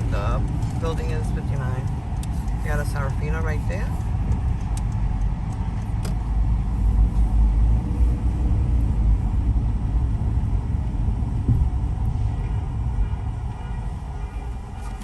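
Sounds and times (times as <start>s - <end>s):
car driving rumble from inside: 0.0s - 15.0s.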